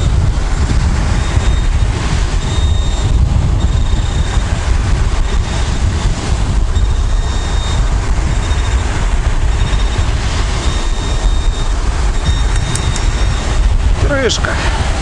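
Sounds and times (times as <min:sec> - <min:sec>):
storm surf: 0:00.0 - 0:15.0
wind buffeting microphone: 0:00.0 - 0:15.0
metal detector tones: 0:01.0 - 0:14.3.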